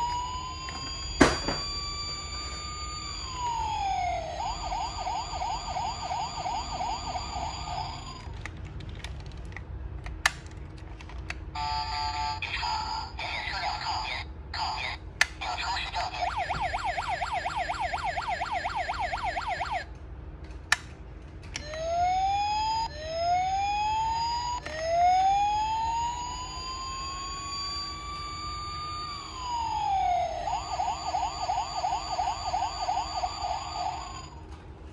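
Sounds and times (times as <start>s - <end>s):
electronic toy police siren: 0.0s - 8.4s, 11.6s - 19.9s, 21.6s - 34.4s.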